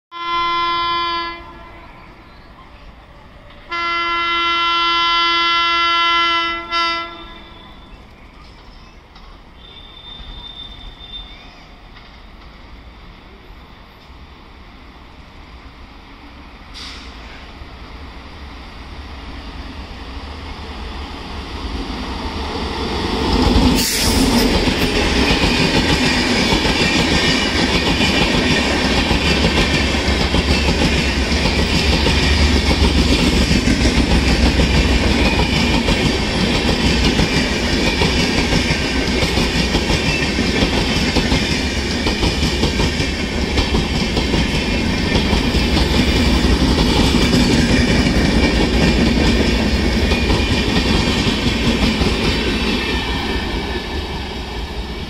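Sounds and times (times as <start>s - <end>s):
train passing at speed: 0.2s - 55.0s.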